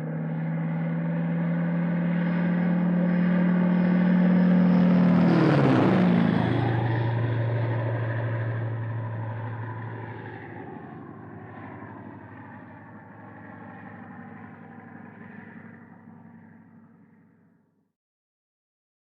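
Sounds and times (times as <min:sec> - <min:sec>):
propeller airplane engine receding: 0:00.0 - 0:17.6.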